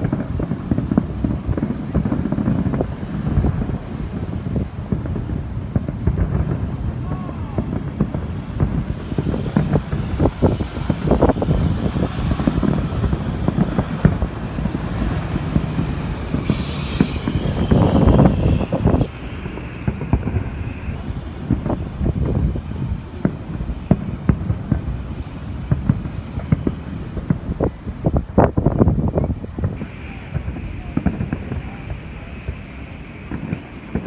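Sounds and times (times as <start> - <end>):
distant fireworks thuds: 0.0 - 34.0
wind buffeting microphone: 0.0 - 34.0.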